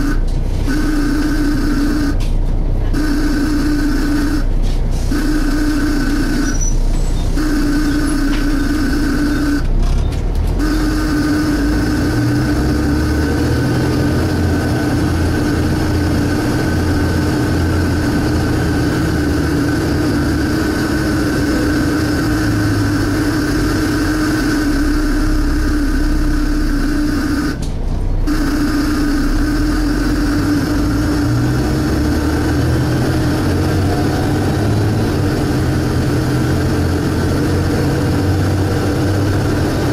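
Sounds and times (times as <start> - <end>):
suction-like whine: 0.0 - 2.3, 2.9 - 9.8, 10.5 - 27.6, 28.2 - 39.9
bus diesel engine rumble: 0.0 - 39.9.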